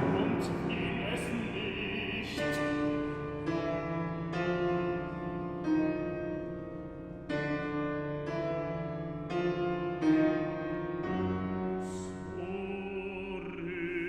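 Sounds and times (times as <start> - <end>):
piano playing sustained chords: 0.0 - 14.0.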